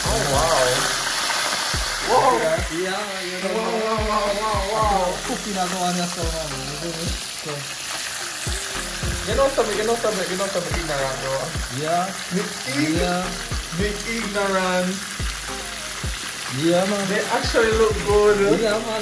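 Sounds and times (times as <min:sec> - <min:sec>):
melodic humming: 0:00.0 - 0:11.7, 0:12.4 - 0:16.6
fish sizzling in oil: 0:00.0 - 0:19.0.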